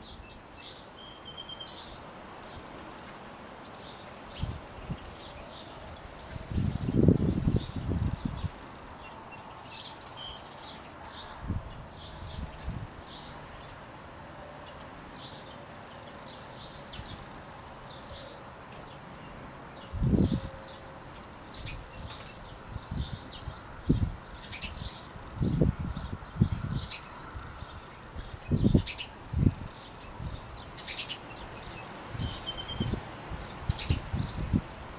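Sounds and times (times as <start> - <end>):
small birds chirping: 0.0 - 13.8, 14.4 - 34.7.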